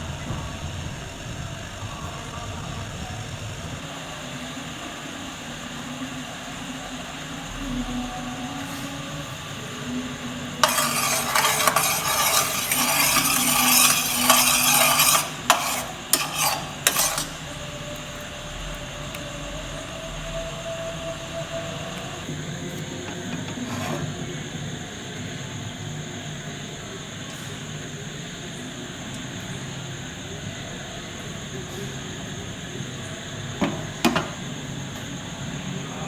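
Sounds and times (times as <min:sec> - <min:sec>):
loud cooking hiss: 0:00.0 - 0:36.0.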